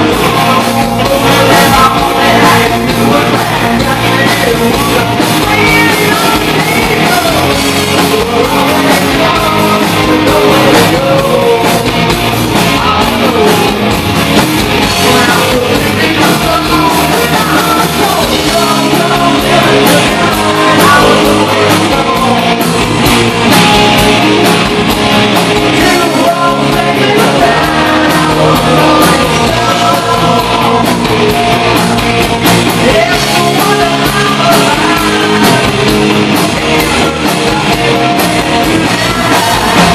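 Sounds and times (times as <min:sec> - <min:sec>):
man singing: 0:00.0 - 0:13.9, 0:14.8 - 0:23.0, 0:25.6 - 0:31.9, 0:32.7 - 0:39.9
hard rock band playing: 0:00.0 - 0:39.9.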